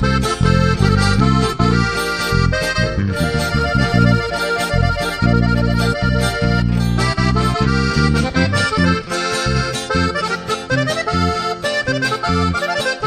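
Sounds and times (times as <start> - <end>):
pulsing bass line: 0.0 - 12.8
accordion melody: 0.0 - 13.0.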